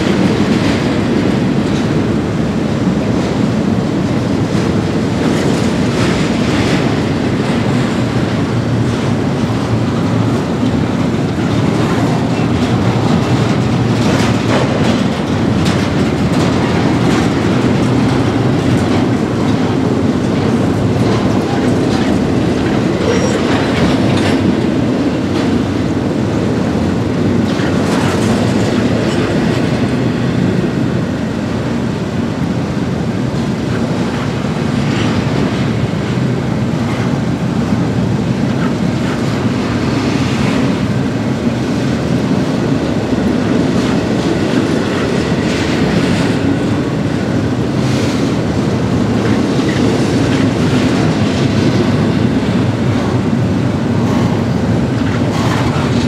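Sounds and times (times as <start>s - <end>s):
clickety-clack over rail joints: 0.0s - 56.0s
train wheels rumbling on rail: 0.0s - 56.0s.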